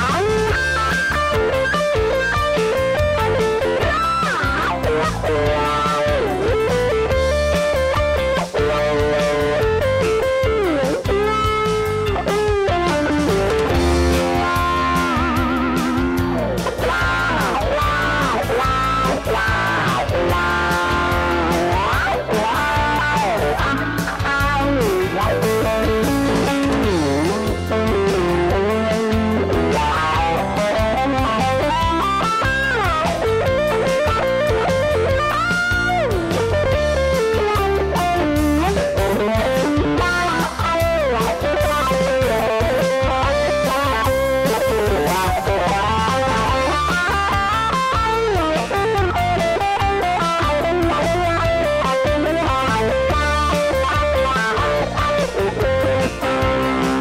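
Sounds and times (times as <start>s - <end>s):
backing track bass line: 0.0s - 57.0s
electric guitar blues solo: 0.0s - 57.0s.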